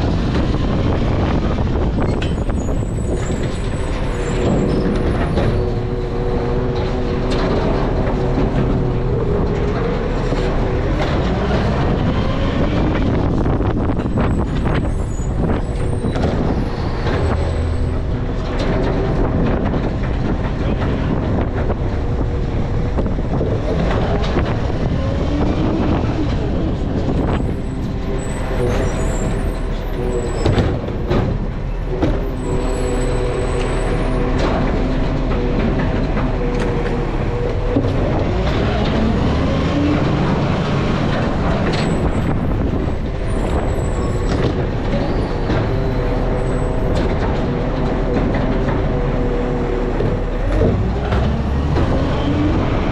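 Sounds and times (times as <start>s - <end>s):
garbage truck engine droning: 0.0s - 52.9s.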